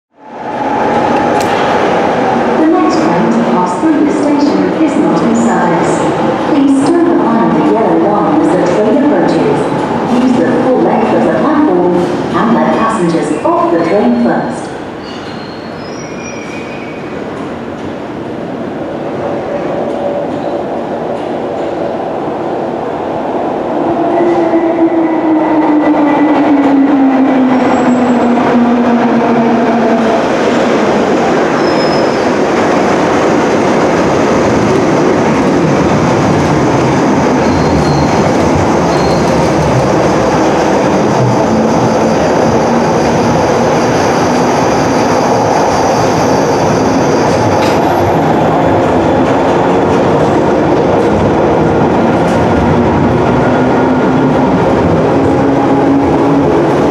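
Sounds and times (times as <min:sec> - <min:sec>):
train wheels rumbling on track: 0:00.2 - 0:13.5, 0:14.3 - 0:56.9
train arriving whine: 0:00.2 - 0:56.9.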